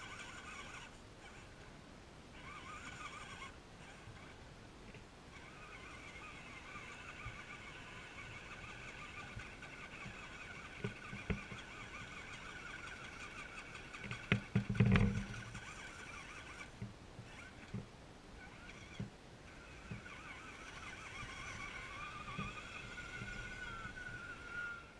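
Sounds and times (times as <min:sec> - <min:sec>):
electric motor and gears whining: 0:00.0 - 0:01.5, 0:02.4 - 0:04.4, 0:05.3 - 0:24.9.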